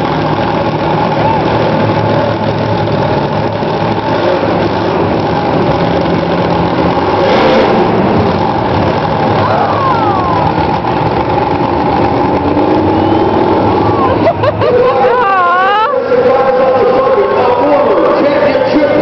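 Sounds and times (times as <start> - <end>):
truck engine deep drone: 0.0 - 19.0.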